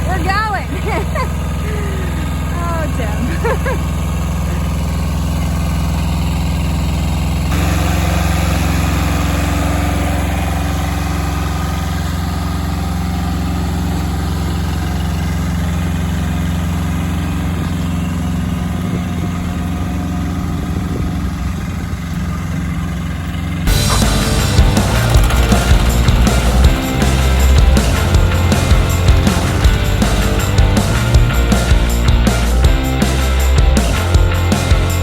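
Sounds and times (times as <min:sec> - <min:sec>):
old tractor engine running: 0:00.0 - 0:35.0.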